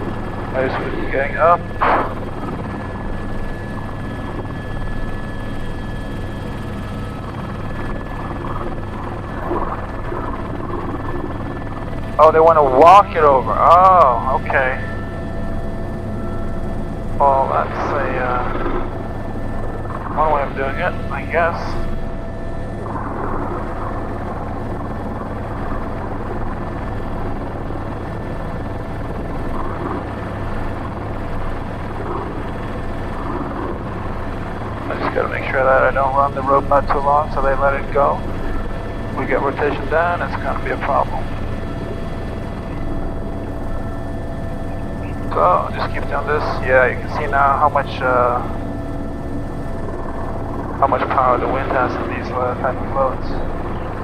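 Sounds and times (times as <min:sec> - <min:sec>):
faint high whine: 0:00.0 - 0:54.0
helicopter turbine and rotor drone: 0:00.0 - 0:54.0.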